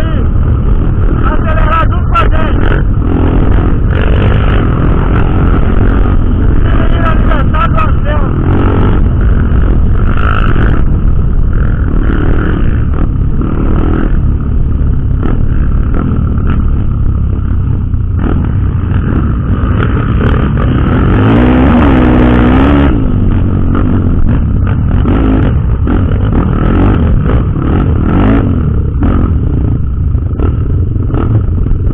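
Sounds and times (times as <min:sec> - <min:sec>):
heavy low rumble: 0:00.0 - 0:31.9
motorcycle engine revving: 0:00.0 - 0:31.9.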